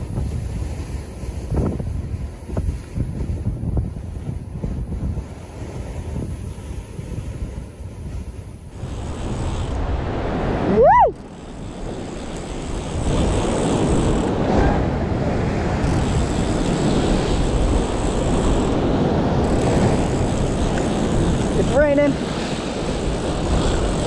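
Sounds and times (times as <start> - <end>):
ocean surf: 0.0 - 24.0
wind rushing: 1.4 - 24.0.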